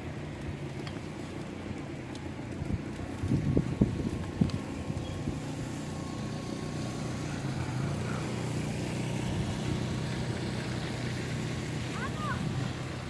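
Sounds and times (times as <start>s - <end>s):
car traffic hum: 0.0s - 13.0s.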